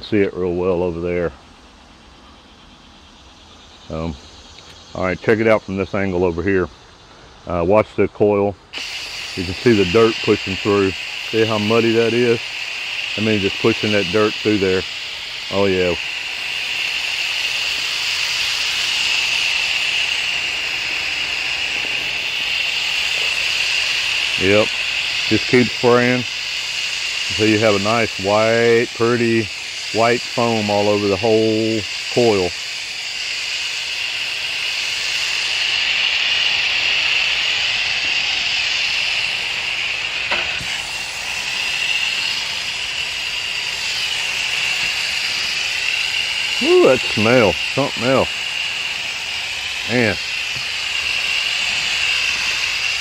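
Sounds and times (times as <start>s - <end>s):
spray hissing: 0.0s - 8.0s, 8.6s - 53.0s.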